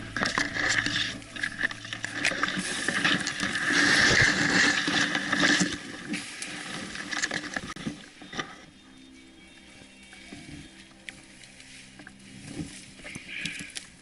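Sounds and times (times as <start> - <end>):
dry brush crackling and snapping: 0.0 - 14.0
person pushing through undergrowth: 0.0 - 14.0.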